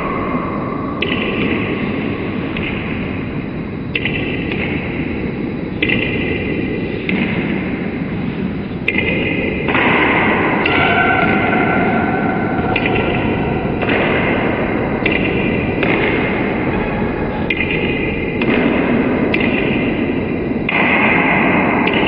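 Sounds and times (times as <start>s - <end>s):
steady noisy background: 0.0s - 22.0s.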